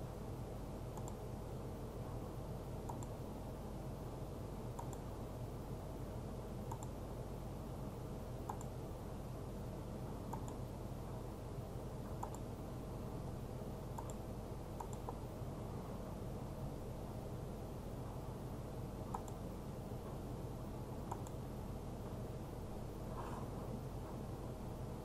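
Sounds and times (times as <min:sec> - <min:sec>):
low hum of room noise: 0:00.0 - 0:25.0.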